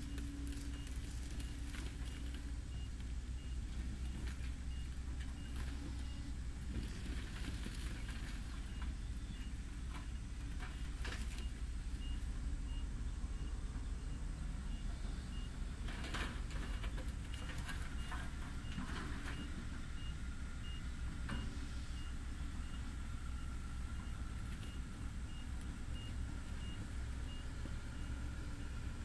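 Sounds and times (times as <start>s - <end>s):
excavator engine rumbling: 0.0s - 29.0s.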